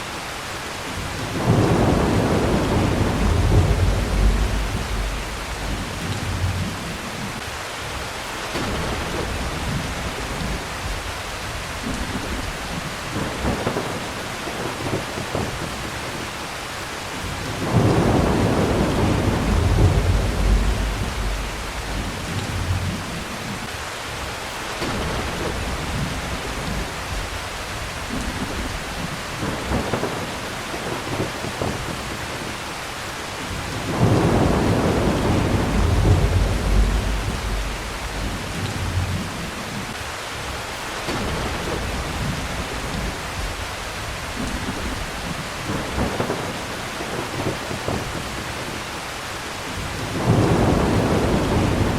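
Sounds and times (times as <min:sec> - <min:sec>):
heavy rain: 0:00.0 - 0:51.9
rolling thunder: 0:00.9 - 0:16.2, 0:17.2 - 0:23.7, 0:24.8 - 0:32.5, 0:33.5 - 0:40.0, 0:41.1 - 0:48.9, 0:49.7 - 0:51.9.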